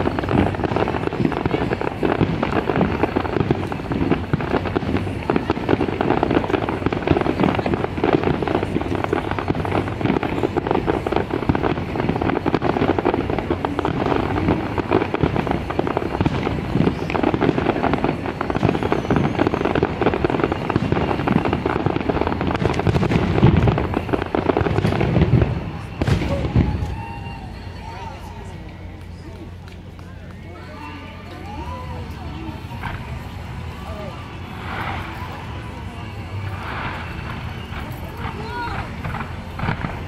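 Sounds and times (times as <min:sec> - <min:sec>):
firework bursts and crackling: 0:00.0 - 0:40.0.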